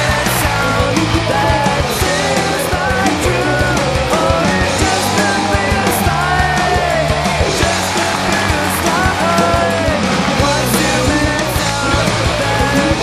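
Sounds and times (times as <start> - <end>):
punk rock music: 0.0 - 13.0
steady drum beat: 0.0 - 13.0.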